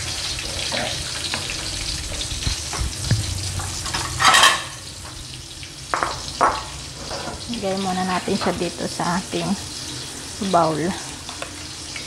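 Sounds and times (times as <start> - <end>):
sauce sizzling in frying pan: 0.0 - 12.0.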